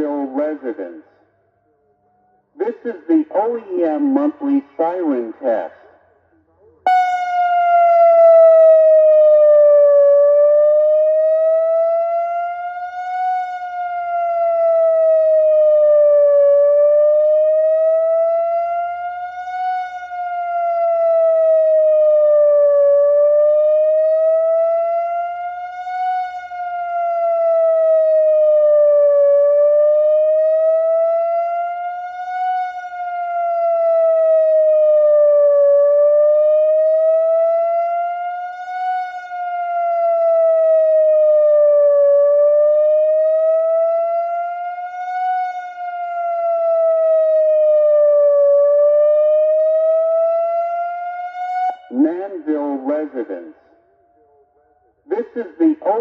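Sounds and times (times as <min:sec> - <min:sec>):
electronic warning siren wailing: 0:06.9 - 0:55.0.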